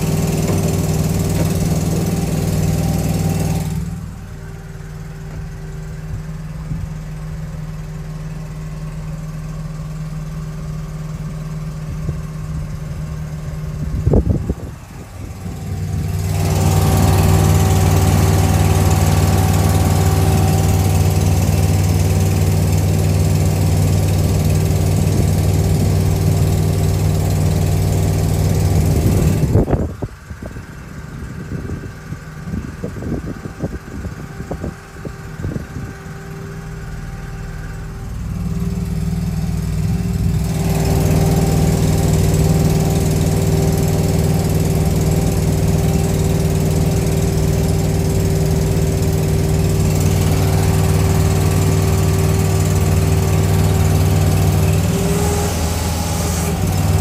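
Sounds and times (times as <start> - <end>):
ferry engine droning: 0.0 - 57.0.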